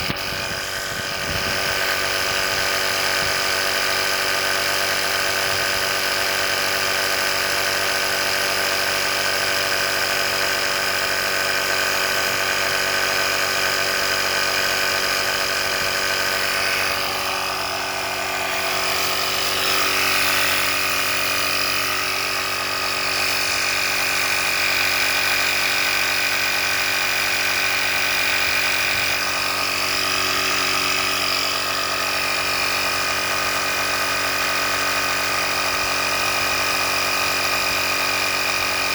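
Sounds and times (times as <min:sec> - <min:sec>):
air compressor whirring: 0:00.0 - 0:38.9.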